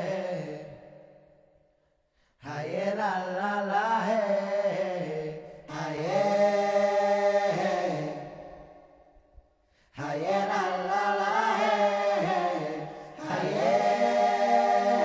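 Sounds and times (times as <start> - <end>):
chanting voice singing wordlessly: 0.0 - 1.4, 2.4 - 9.2, 9.9 - 15.0.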